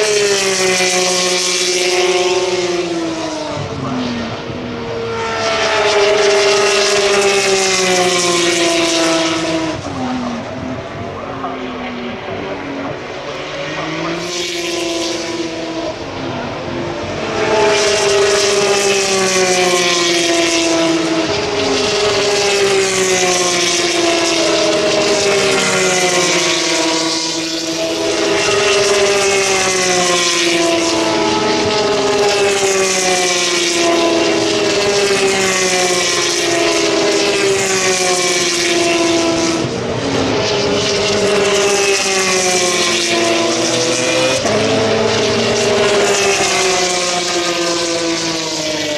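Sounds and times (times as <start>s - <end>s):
racing car engines changing gear: 0.0s - 48.9s.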